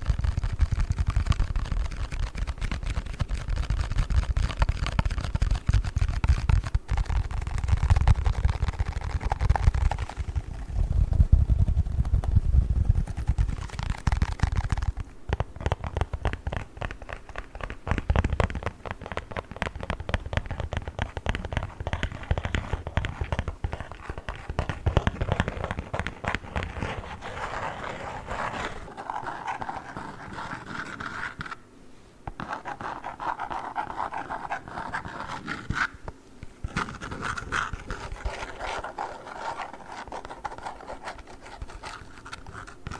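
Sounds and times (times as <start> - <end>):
fingers scratching foam package: 0.0 - 31.6, 32.3 - 42.9.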